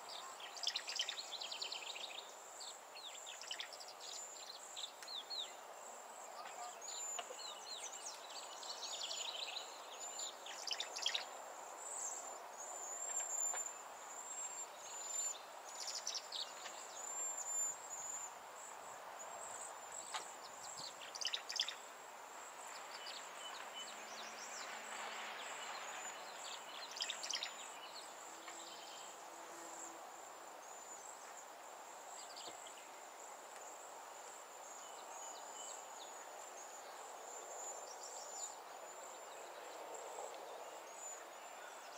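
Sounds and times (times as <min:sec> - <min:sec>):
low background hiss: 0:00.0 - 0:41.9
wild birds chirping: 0:00.0 - 0:41.9
high-pitched insect trill: 0:00.1 - 0:24.6, 0:25.4 - 0:40.0.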